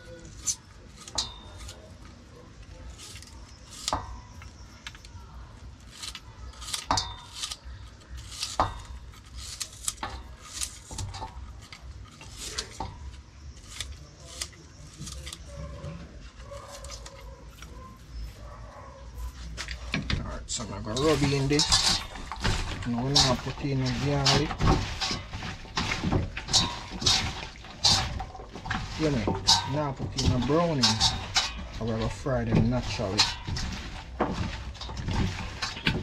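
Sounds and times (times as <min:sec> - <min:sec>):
utensils and dishes clinking: 0:00.0 - 0:18.6, 0:19.3 - 0:36.0.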